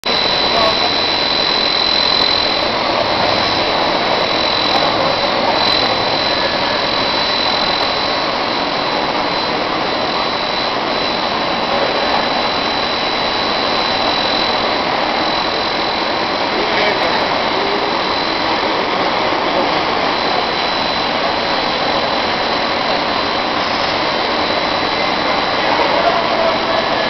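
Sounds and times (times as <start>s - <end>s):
high-pitched machine whine: 0.0s - 27.0s.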